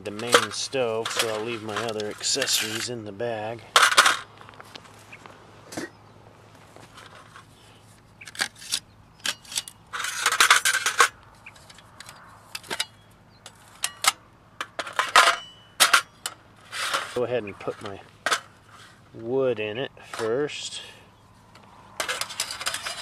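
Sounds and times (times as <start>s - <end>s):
metal scraping rattle: 0.0s - 4.4s, 6.8s - 19.3s, 20.0s - 20.9s, 21.5s - 23.0s.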